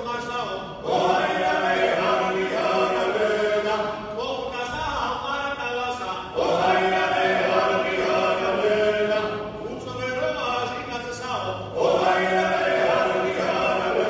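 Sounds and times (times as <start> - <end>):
male ensemble singing polyphony: 0.5 - 4.5, 6.1 - 14.0.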